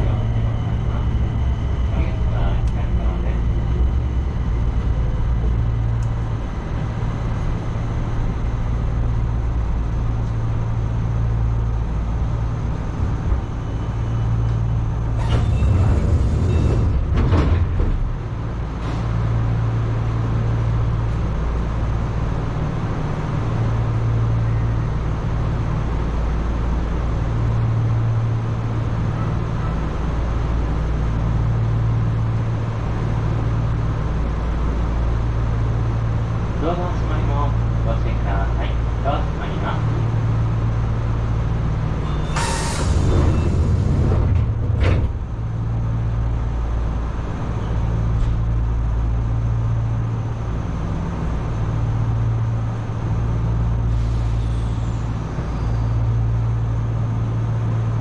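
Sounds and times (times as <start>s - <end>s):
electric train rumble: 0.0s - 58.0s
low hum: 0.0s - 58.0s.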